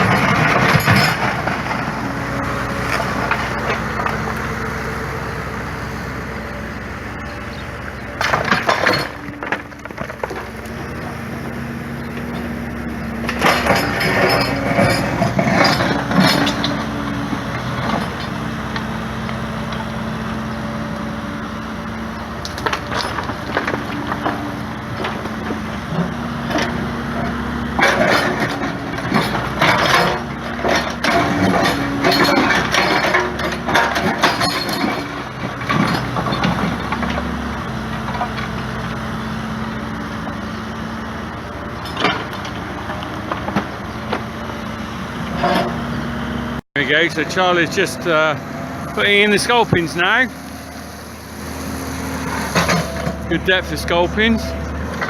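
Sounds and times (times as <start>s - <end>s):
rubble crashing and scraping: 0.0s - 4.7s, 7.5s - 38.9s, 46.9s - 55.0s
diesel engine running: 0.0s - 55.0s.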